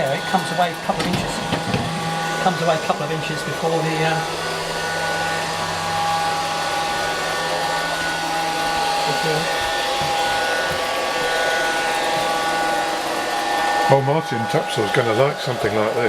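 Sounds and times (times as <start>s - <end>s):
high whine: 0.0s - 16.0s
robotic vacuum cleaner whirring: 0.0s - 16.0s.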